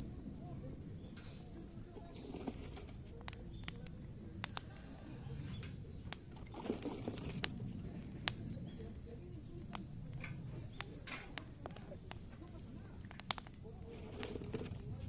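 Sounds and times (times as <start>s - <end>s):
fire crackling and popping: 0.0s - 15.0s
fire rushing: 0.0s - 15.0s.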